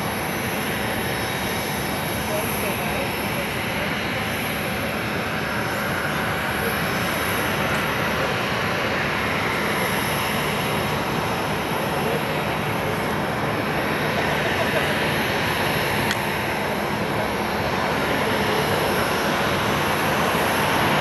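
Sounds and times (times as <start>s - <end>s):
jet engines rushing with whine: 0.0s - 21.0s.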